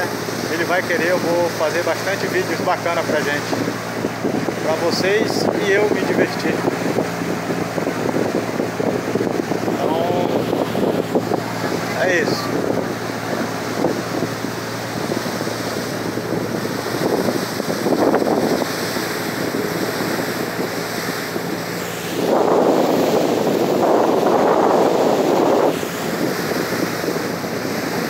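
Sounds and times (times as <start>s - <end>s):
low engine drone: 0.0s - 27.6s
water rushing along hull: 0.0s - 28.0s
wind buffeting microphone: 0.0s - 28.0s.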